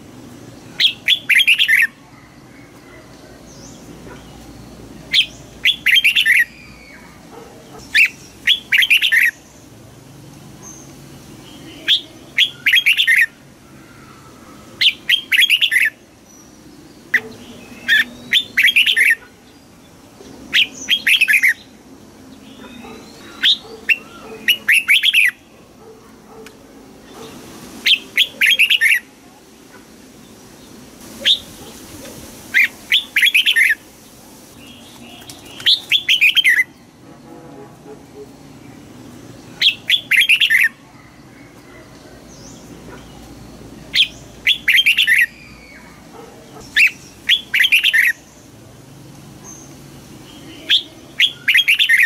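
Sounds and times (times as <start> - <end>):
bird singing chirping phrases: 0.1 - 26.0, 27.0 - 31.9, 32.5 - 37.0, 38.3 - 48.7, 49.4 - 52.0.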